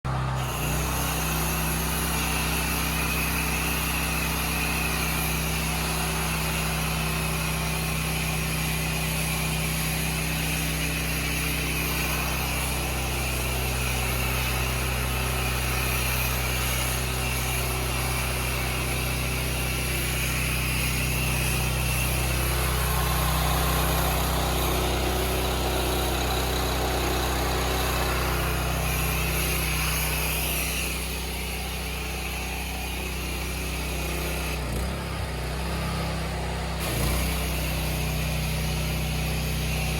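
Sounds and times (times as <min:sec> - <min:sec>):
petrol engine running: 0:00.1 - 0:09.8, 0:10.6 - 0:39.9.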